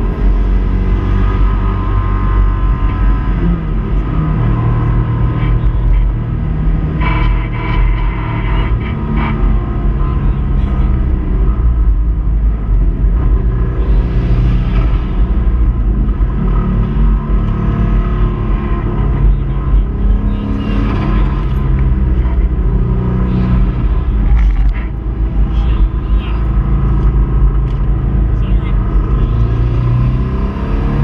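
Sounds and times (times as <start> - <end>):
car engine running hard: 0.0 - 31.0
tyre and road rumble: 0.0 - 31.0.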